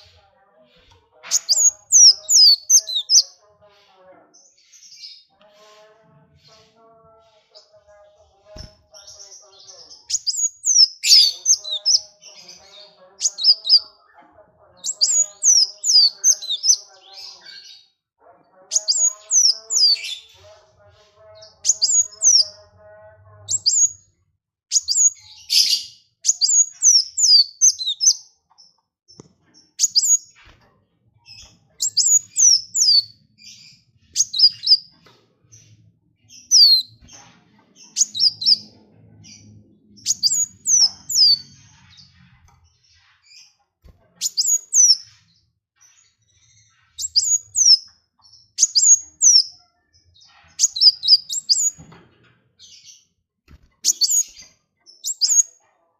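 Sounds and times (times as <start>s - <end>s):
songbird chirping: 0.0s - 55.7s.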